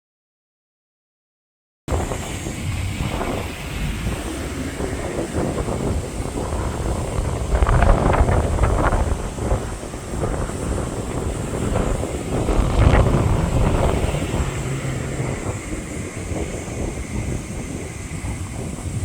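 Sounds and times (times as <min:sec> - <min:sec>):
wind buffeting microphone: 0:01.9 - 0:19.0.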